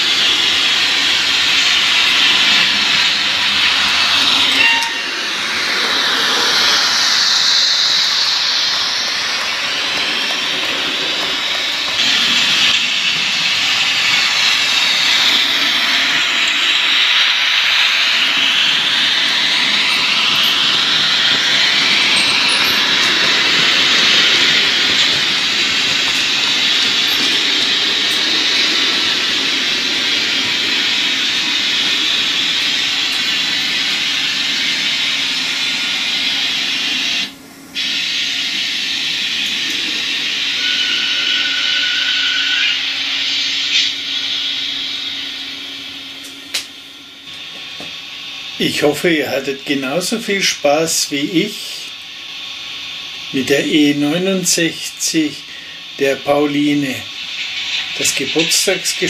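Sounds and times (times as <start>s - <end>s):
model train running on track: 0.0s - 59.0s.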